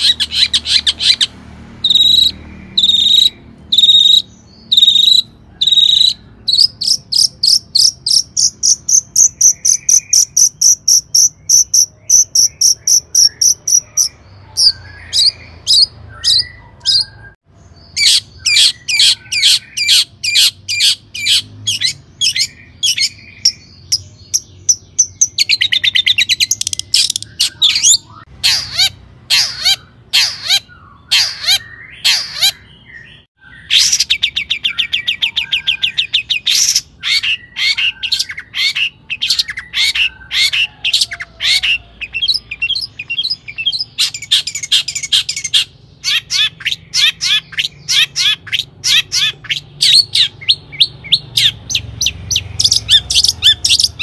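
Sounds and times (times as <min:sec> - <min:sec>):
bird singing: 0:00.0 - 0:54.0.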